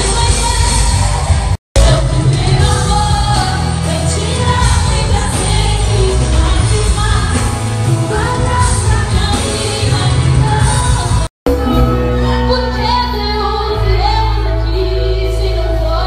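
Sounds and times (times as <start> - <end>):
live band music with singing: 0.0 - 16.0.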